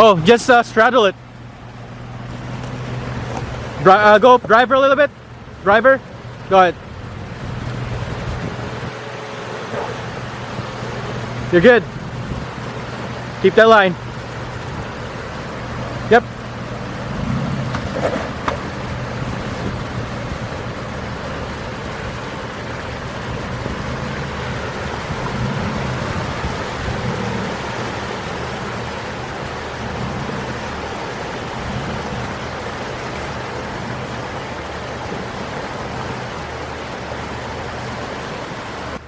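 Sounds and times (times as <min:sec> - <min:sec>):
rushing water: 0:00.0 - 0:39.0
vehicle engine at low revs: 0:00.0 - 0:39.0.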